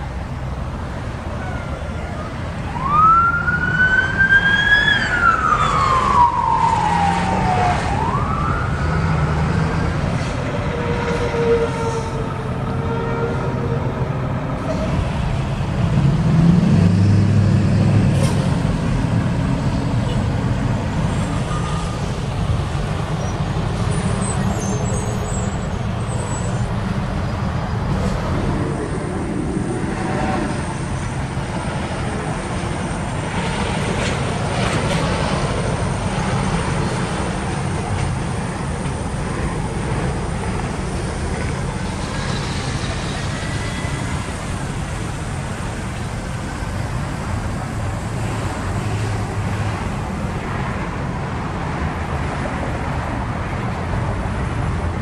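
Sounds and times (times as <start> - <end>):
passing road traffic: 0.0 - 55.0
truck engines rumbling: 0.0 - 55.0.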